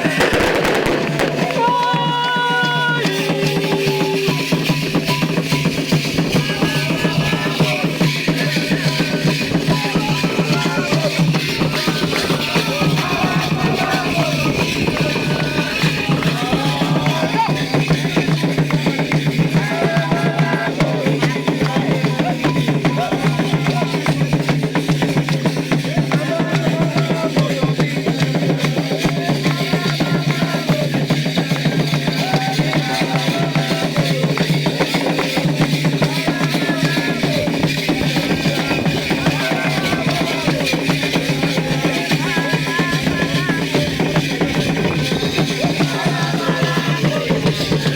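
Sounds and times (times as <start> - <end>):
hand drums beating a rhythm: 0.0 - 47.9
people singing: 0.0 - 47.9.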